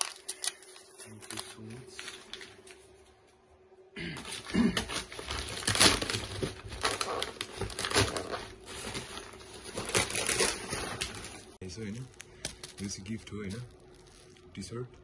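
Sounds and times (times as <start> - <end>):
bubble wrap crinkling: 0.0 - 2.9, 4.3 - 14.6.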